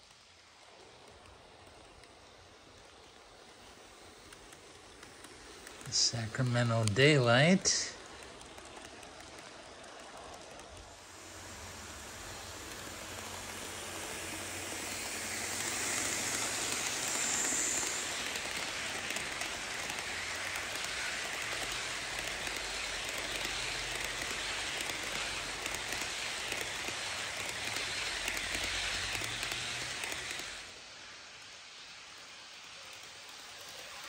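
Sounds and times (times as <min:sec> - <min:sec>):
model train wheels clattering on rail: 0:00.0 - 0:34.0.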